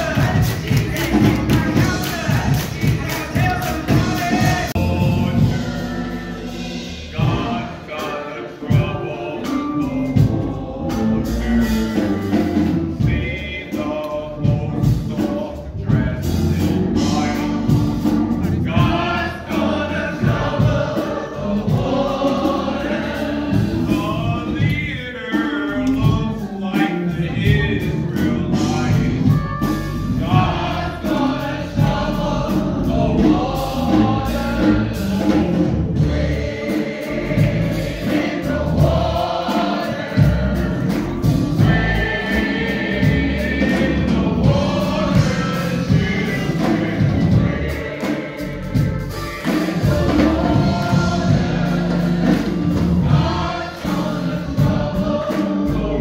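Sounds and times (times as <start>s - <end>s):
choir singing a hymn: 0.0s - 56.0s
low accompaniment: 0.0s - 56.0s.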